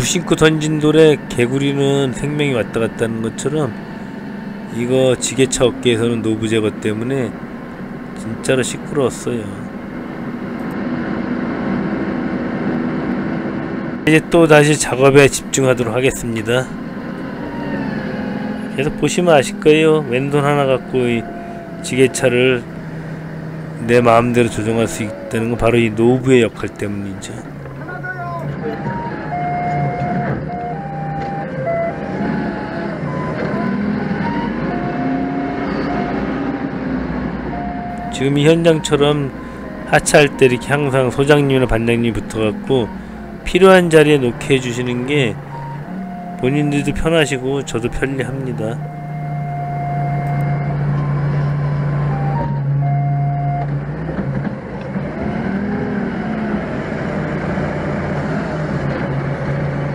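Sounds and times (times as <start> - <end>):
steady electronic tones: 0.0 - 10.7, 14.1 - 53.7
forklift engine with whine: 0.0 - 59.9.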